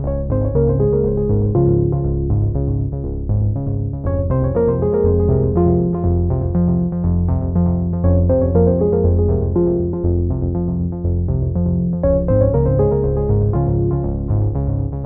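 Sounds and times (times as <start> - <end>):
instrumental keyboard music: 0.0 - 15.0.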